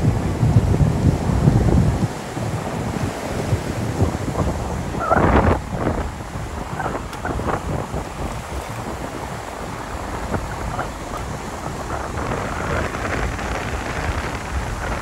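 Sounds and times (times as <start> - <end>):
surf breaking on beach: 0.0 - 15.0
wind gusting across microphone: 0.0 - 15.0.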